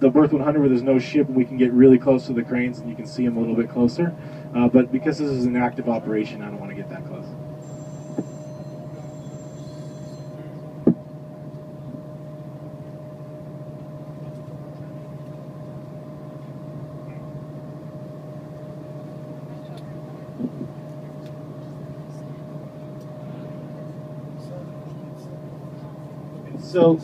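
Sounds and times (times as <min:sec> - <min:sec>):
low hum of heavy machinery: 0:00.0 - 0:27.0.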